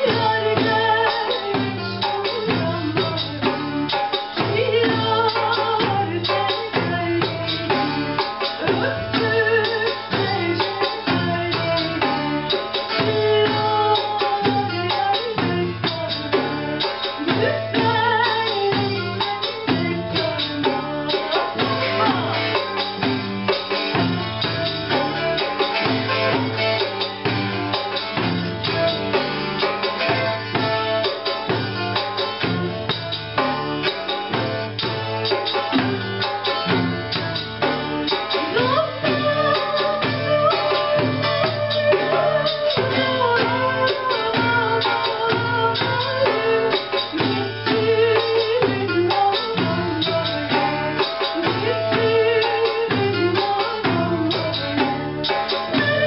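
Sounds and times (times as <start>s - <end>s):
darbuka and tambourine beat: 0.0s - 56.0s
plucked lute: 0.0s - 56.0s
woman singing: 0.0s - 56.0s.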